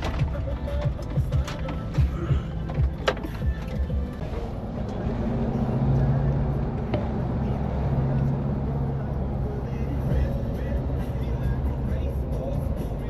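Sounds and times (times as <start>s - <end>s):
background music: 0.0s - 13.0s
vehicle engine humming: 0.0s - 13.0s.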